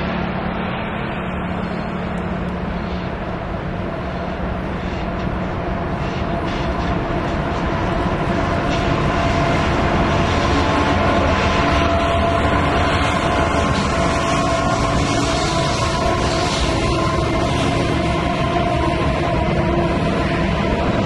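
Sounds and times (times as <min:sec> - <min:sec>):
diesel locomotives running: 0:00.0 - 0:21.0.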